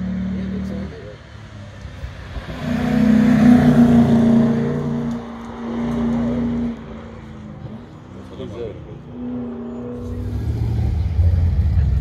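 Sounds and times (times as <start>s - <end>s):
car engine at high revs: 0.0s - 12.0s
second car engine: 0.0s - 12.0s.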